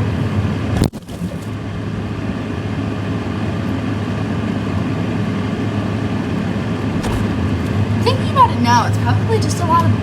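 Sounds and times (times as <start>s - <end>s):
freezer compressor hum: 0.0s - 10.0s.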